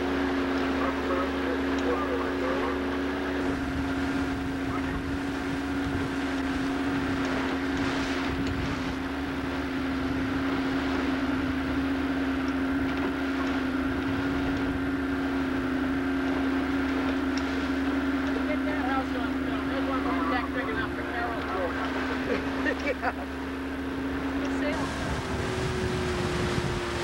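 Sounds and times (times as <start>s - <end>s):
motorboat engine humming: 0.0s - 27.0s
wind and water rushing: 0.0s - 27.0s.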